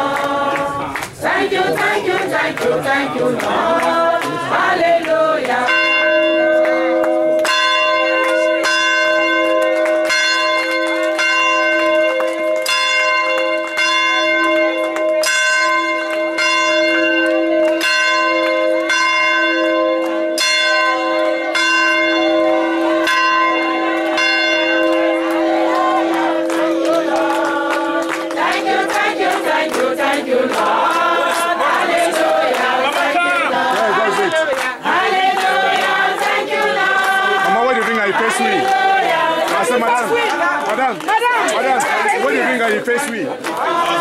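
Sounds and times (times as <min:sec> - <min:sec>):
large church bell ringing: 0:03.0 - 0:40.9.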